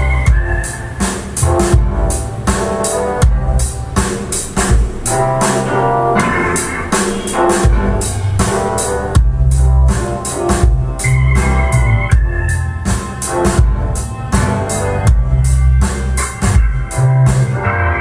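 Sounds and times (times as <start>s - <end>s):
song with drums and guitar: 0.0s - 18.0s
strong subwoofer bass: 0.0s - 18.0s.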